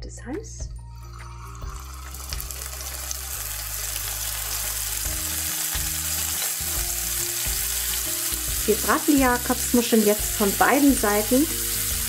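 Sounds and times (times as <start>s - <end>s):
scallops sizzling in a frying pan: 1.6s - 12.0s.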